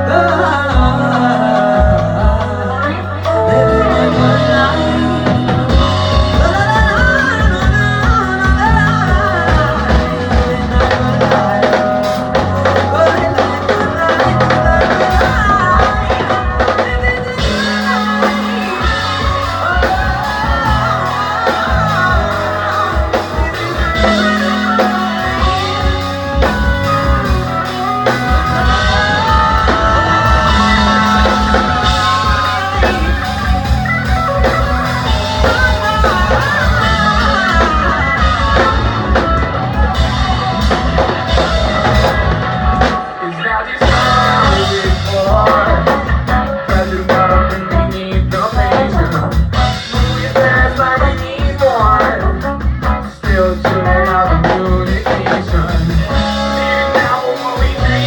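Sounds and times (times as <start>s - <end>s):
bass guitar: 0.0s - 58.0s
drum kit: 0.0s - 58.0s
electric guitar: 0.0s - 58.0s
person singing: 0.0s - 58.0s.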